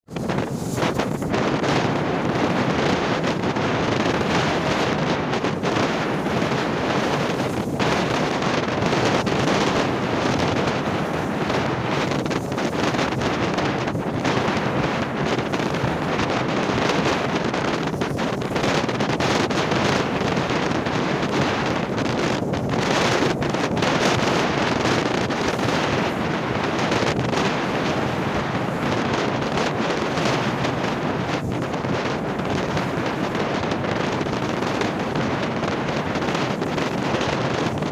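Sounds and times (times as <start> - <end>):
rough sea waves: 0.0 - 37.9
wind buffeting microphone: 0.0 - 37.9.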